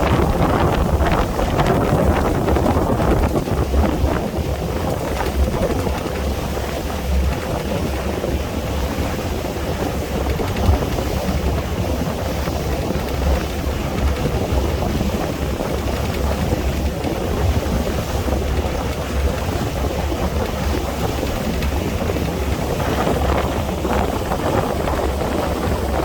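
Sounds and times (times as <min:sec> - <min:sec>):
waves and rushing water: 0:00.0 - 0:26.0
wind buffeting microphone: 0:00.0 - 0:26.0.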